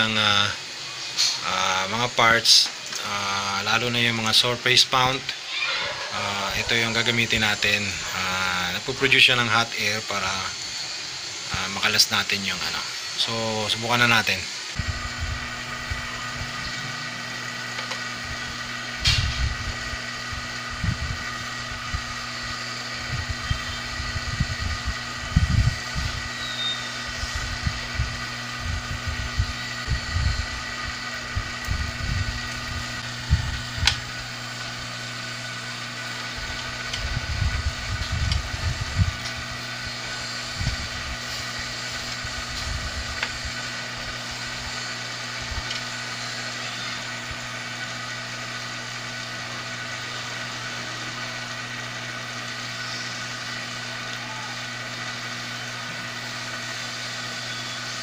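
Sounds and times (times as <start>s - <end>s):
blower fan whirring: 0.0s - 58.0s.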